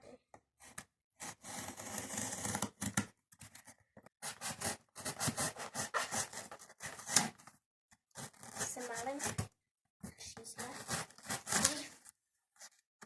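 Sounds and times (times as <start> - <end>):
knife cutting cardboard: 0.6 - 7.5, 8.1 - 9.5, 10.6 - 12.8.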